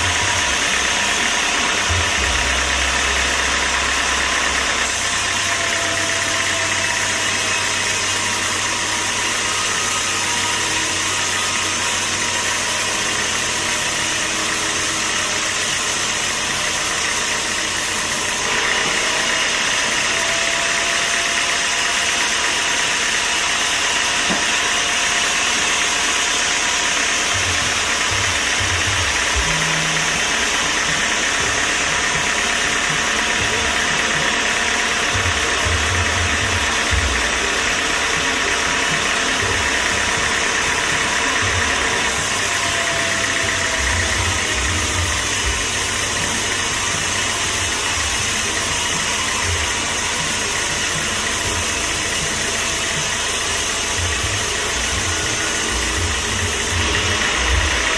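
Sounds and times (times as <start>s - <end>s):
high mechanical whine: 0.0s - 57.9s
low machinery rumble: 0.0s - 57.9s.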